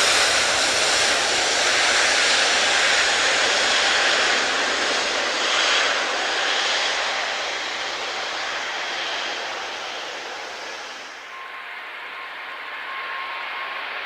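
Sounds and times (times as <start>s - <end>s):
jet airliner taking off: 0.0s - 14.0s.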